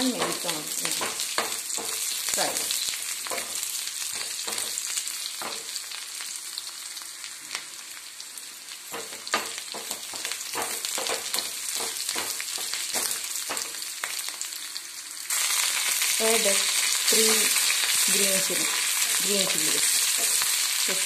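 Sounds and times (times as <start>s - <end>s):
onion and garlic sizzling in oil: 0.0s - 21.0s.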